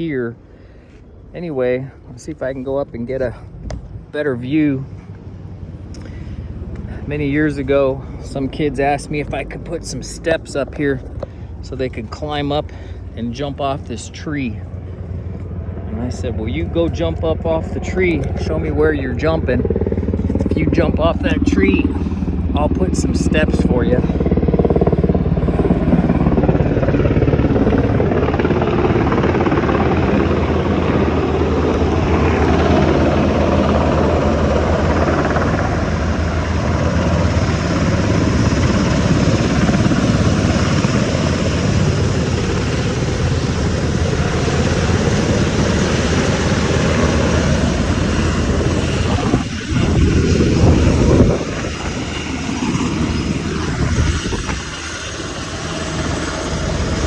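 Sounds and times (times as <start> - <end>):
helicopter rotor beating: 0.0 - 57.0.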